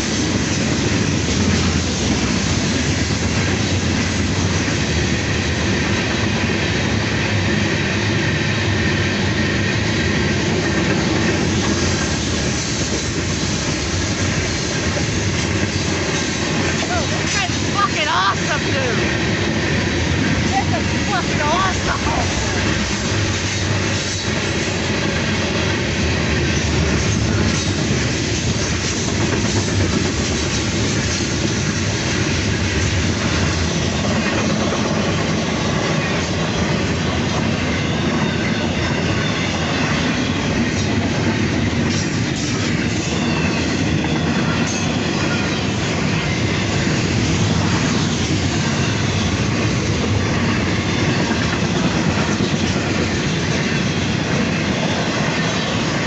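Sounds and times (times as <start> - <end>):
clickety-clack at rail joints: 0.0 - 56.0
train wheels rumbling on rails: 0.0 - 56.0.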